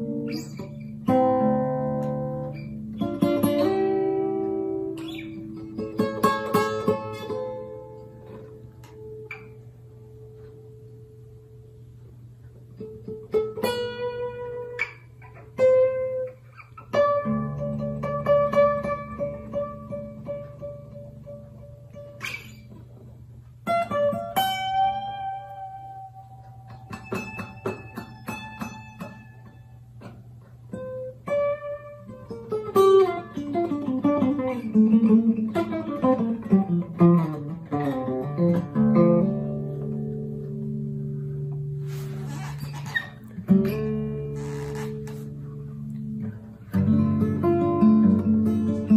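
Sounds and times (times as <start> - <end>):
guitar notes plucked: 0.0 - 48.9.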